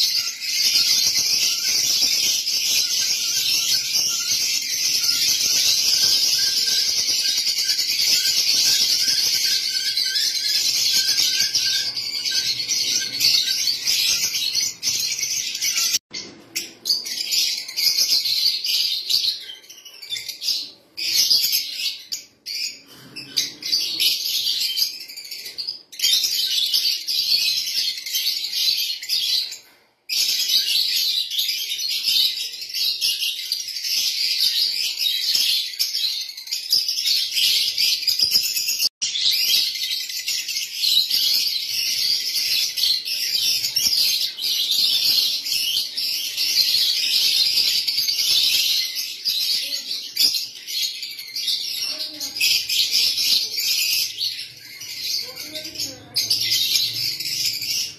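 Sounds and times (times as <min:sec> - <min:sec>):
lovebirds chattering and chirping: 0:00.0 - 0:57.9.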